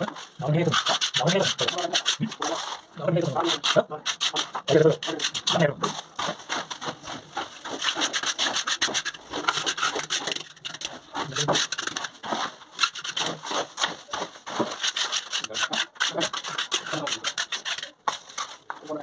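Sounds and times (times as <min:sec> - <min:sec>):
hand tool scraping gritty surface: 0:00.0 - 0:18.9.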